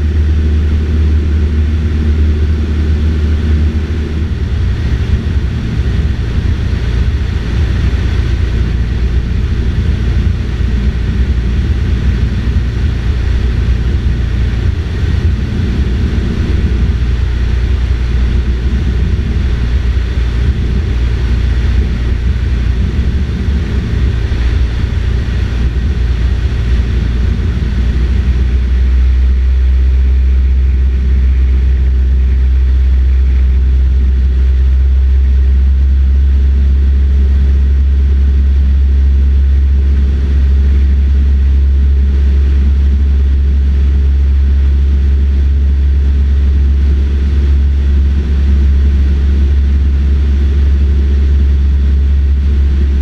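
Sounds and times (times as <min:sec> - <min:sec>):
airplane engine drone in cabin: 0:00.0 - 0:53.0.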